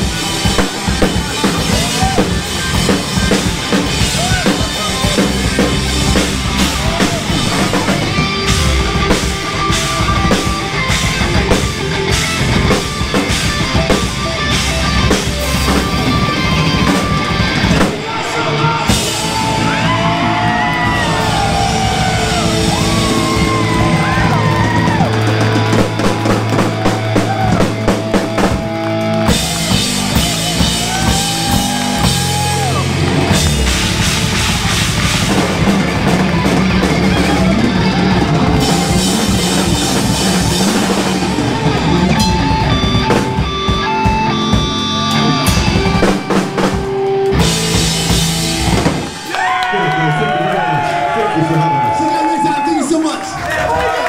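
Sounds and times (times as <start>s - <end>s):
lead guitar bending lines: 0.0s - 19.9s, 22.1s - 49.2s
drum kit: 0.0s - 49.9s
punk band playing: 0.0s - 54.0s.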